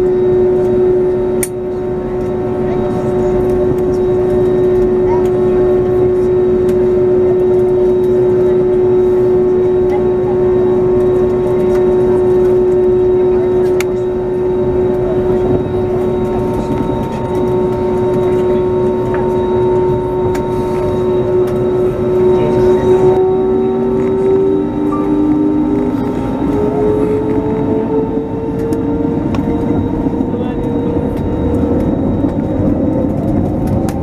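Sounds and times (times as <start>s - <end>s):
jet engines whining in cabin: 0.0s - 34.0s.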